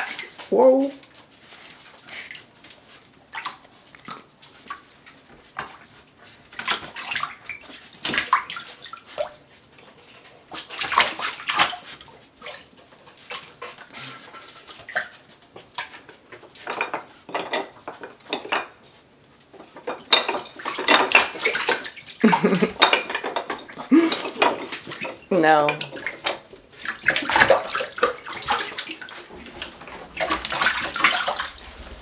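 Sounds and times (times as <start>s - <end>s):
raccoons splashing in water: 0.0s - 1.0s, 1.6s - 5.8s, 6.5s - 9.4s, 10.4s - 16.8s, 20.1s - 32.0s.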